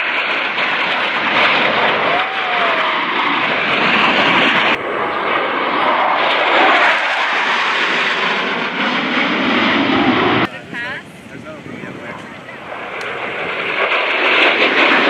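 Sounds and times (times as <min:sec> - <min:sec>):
jet engines roaring past: 0:00.0 - 0:15.0.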